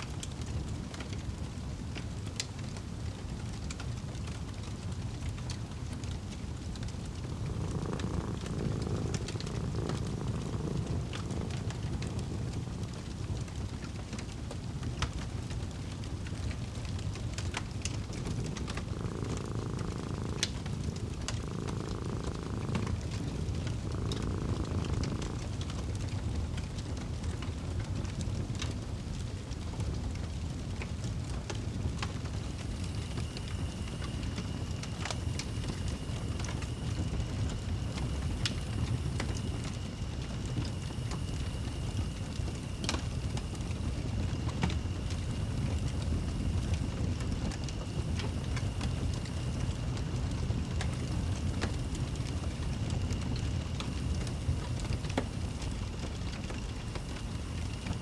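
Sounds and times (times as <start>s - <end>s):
cat purring: 0.0s - 58.0s
fireplace crackling and popping: 0.0s - 58.0s.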